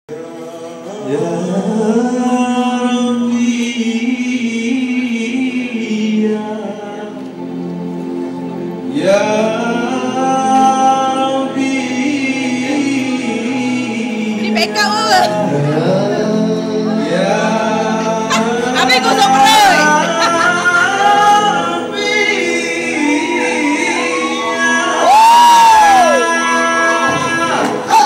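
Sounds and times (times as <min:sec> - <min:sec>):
man singing karaoke: 0:00.1 - 0:07.4, 0:08.9 - 0:28.0
musical backing: 0:00.1 - 0:28.0.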